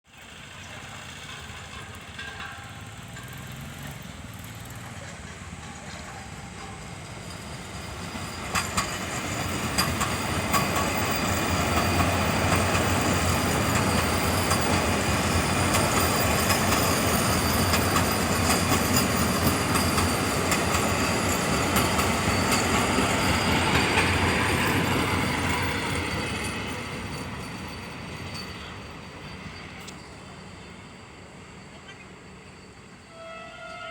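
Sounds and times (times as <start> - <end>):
train wheels clattering over rail joints: 0.4 - 30.3.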